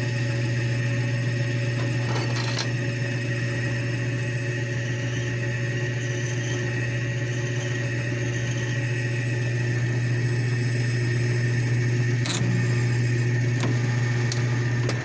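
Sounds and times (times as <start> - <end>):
metal lathe humming: 0.3 - 15.0.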